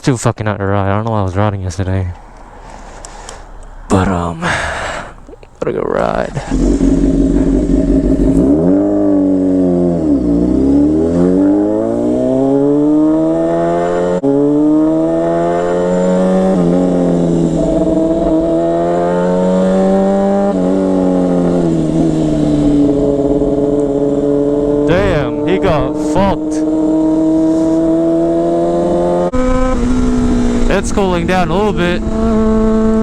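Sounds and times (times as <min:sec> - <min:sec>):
motorcycle engine accelerating: 0:01.8 - 0:33.0.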